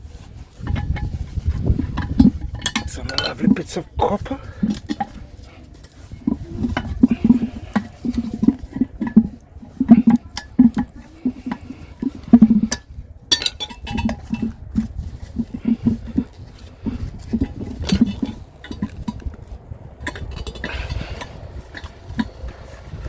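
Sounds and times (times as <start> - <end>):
scrap metal clanking: 0.0 - 23.0.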